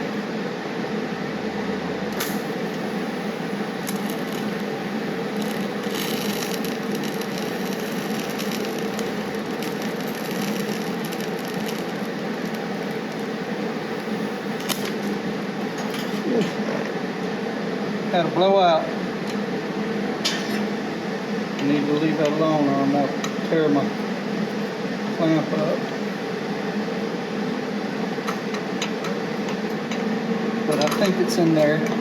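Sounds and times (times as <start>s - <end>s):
constant hum: 0.0s - 32.0s
welding with crackles: 2.1s - 17.4s, 19.0s - 31.8s.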